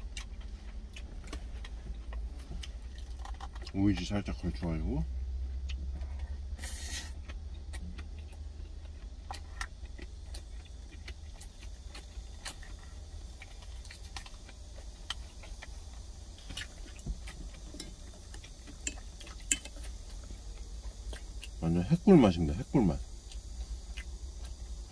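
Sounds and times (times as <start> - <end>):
chewing: 0.0 - 4.2, 5.4 - 21.6, 23.1 - 24.9
steady low hum: 0.0 - 24.9.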